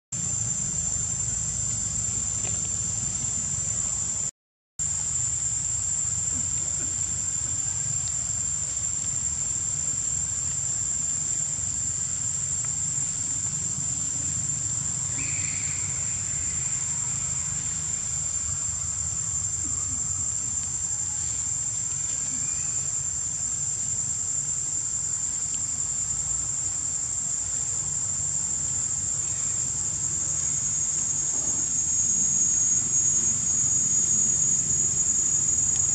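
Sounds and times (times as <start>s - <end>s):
high-pitched insect chorus: 0.2s - 35.9s.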